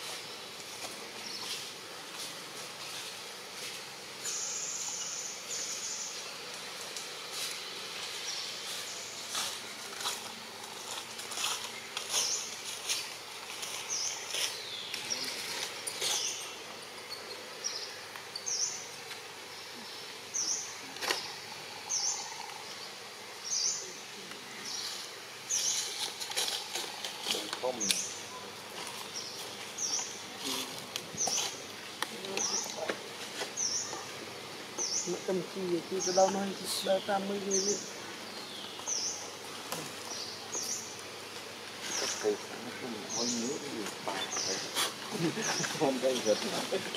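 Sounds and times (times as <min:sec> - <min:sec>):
steady hiss: 0:00.0 - 0:46.9.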